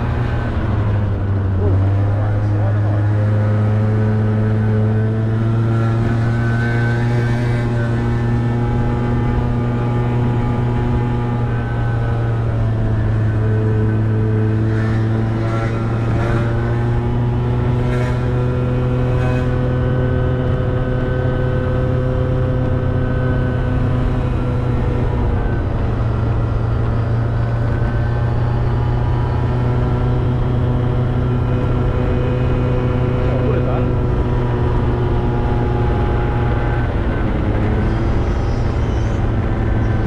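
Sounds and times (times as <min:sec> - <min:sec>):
low road noise rumble: 0:00.0 - 0:40.0.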